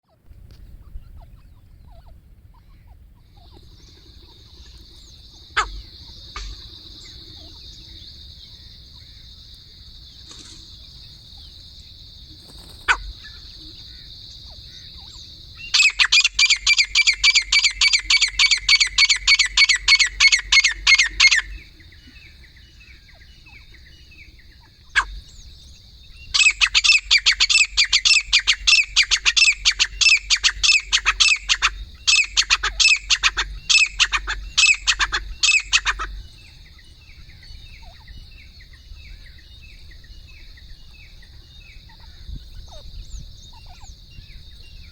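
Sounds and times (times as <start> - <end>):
rapid repeated bird calls: 0.1 - 44.9.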